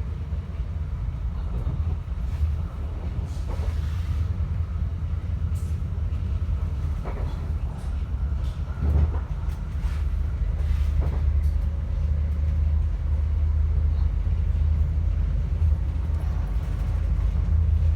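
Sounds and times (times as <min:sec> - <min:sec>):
train rumbling: 0:00.0 - 0:17.9.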